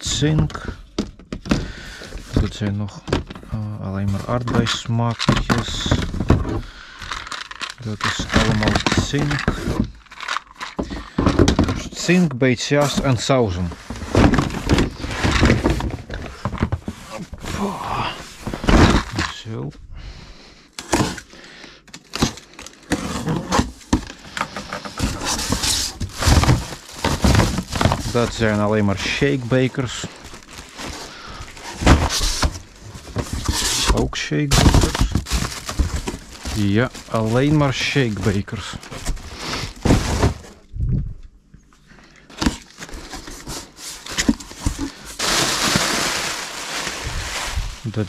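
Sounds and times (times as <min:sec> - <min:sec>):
cardboard boxes knocking and scraping: 0:00.2 - 0:06.7, 0:08.0 - 0:10.0, 0:10.8 - 0:12.0, 0:12.9 - 0:19.4, 0:22.9 - 0:40.6, 0:42.4 - 0:47.8
packaging rustling: 0:03.9 - 0:11.9, 0:12.9 - 0:19.4, 0:20.8 - 0:40.6, 0:42.3 - 0:48.0.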